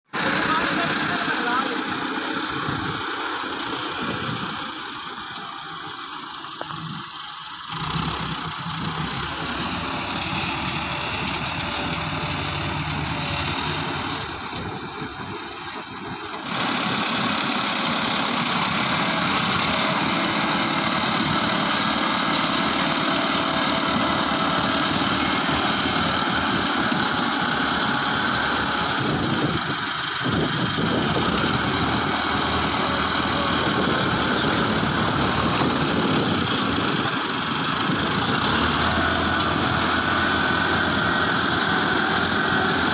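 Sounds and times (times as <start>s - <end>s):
heavy diesel machinery engines: 0.1s - 42.9s.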